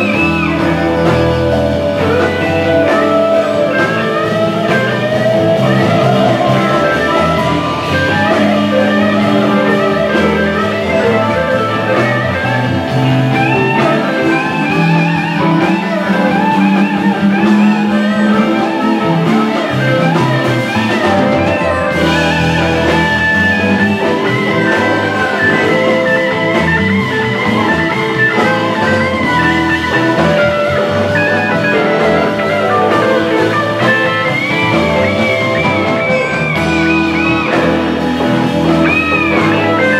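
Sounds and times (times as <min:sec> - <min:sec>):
amplified harmonica: 0:00.0 - 0:39.9
electric guitars: 0:00.0 - 0:39.9
live blues band playing: 0:00.0 - 0:39.9.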